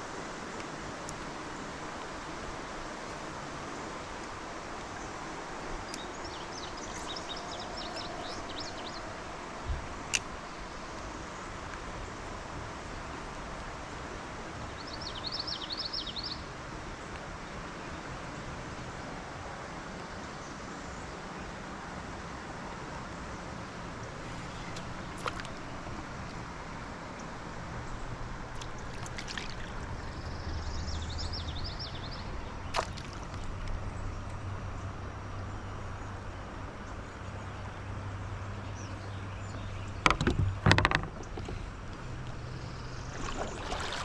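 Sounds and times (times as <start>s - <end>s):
river and air hiss: 0.0s - 44.0s.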